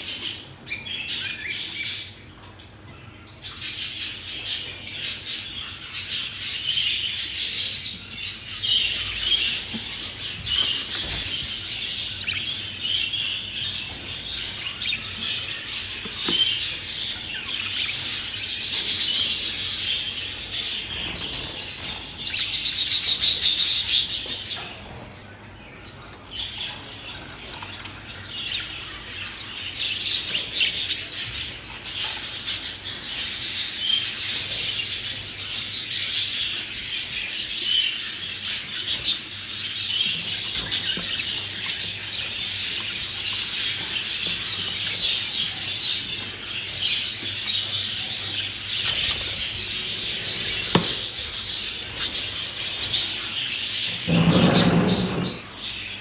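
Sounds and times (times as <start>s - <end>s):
budgerigars chattering and chirping: 3.3s - 56.0s.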